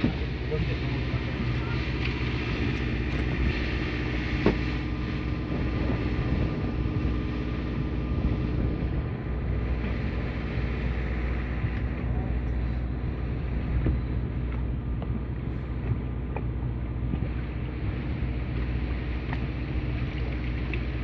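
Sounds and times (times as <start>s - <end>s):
boat machinery drone: 0.0s - 21.0s.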